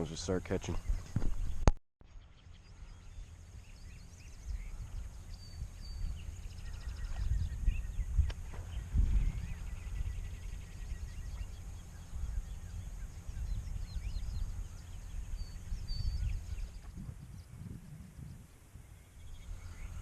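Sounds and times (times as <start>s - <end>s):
small birds chirping: 0.0s - 20.0s
low uneven rumble: 2.6s - 20.0s.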